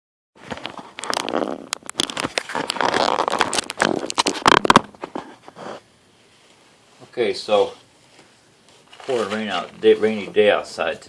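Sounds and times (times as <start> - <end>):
dry material rustling and crackling: 0.4 - 5.1, 6.2 - 10.9.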